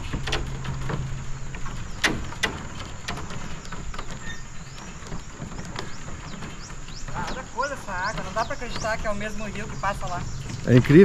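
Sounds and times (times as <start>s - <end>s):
wooden planks knocking underfoot: 0.0s - 11.0s.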